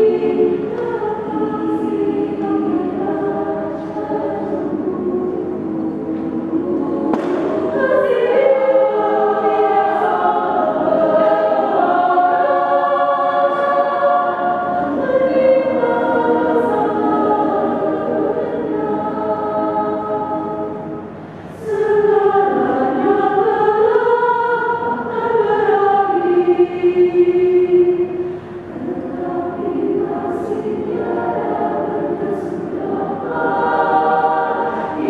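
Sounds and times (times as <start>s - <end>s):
women's choir singing: 0.0s - 35.0s.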